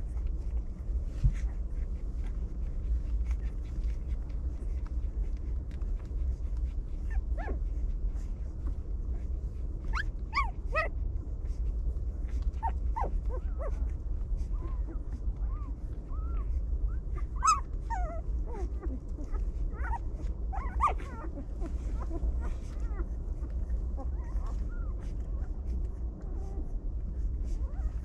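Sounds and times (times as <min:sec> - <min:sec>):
puppies whimpering and yelping: 0:00.0 - 0:28.0
steady low rumble: 0:00.0 - 0:28.0.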